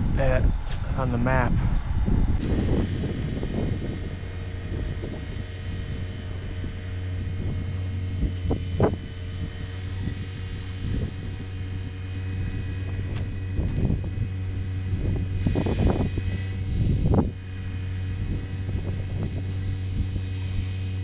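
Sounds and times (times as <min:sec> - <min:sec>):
low engine drone: 0:00.0 - 0:21.0.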